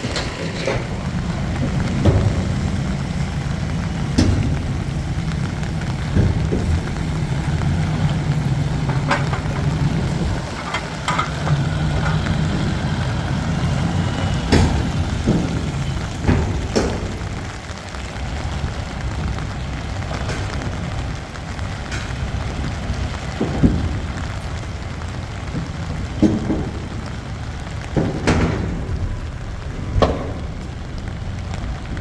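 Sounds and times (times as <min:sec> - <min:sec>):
sharp knocks and clicks: 0:00.0 - 0:17.8, 0:20.0 - 0:32.0
diesel engine running: 0:00.0 - 0:32.0.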